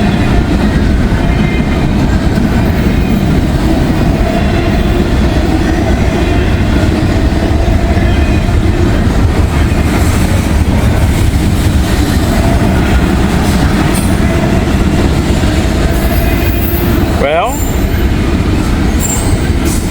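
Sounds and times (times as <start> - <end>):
freight train wheels rumbling: 0.0 - 19.9.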